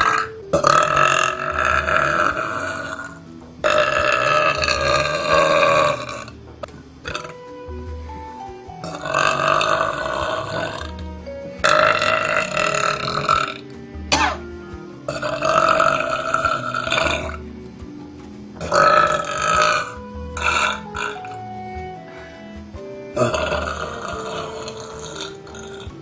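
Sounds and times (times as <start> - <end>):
background music with melody and bass: 0.0 - 26.0.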